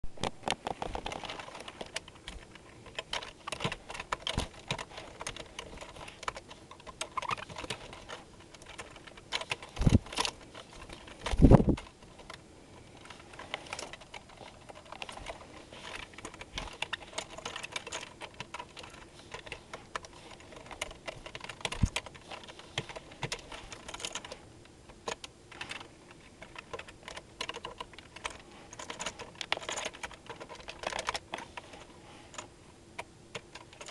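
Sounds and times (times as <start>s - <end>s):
keyboard keys clicking: 0.2s - 12.4s, 13.0s - 31.7s, 32.4s - 33.9s.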